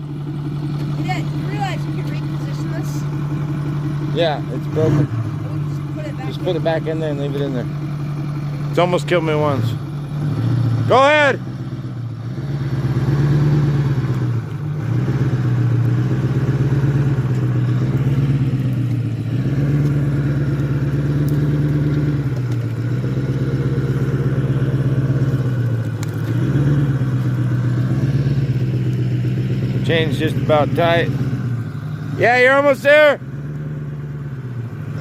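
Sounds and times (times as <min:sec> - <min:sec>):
pickup truck engine revving: 0:00.0 - 0:35.0.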